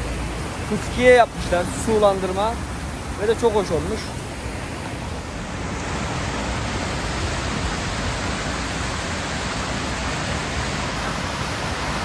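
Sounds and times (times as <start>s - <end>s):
fountains splashing: 0.0s - 12.0s.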